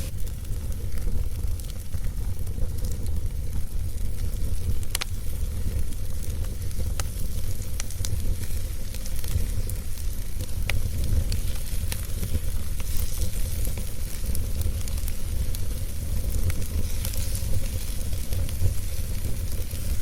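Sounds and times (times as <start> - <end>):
fire low rumble and hiss: 0.0 - 20.0
wood fire crackling and popping: 0.0 - 20.0.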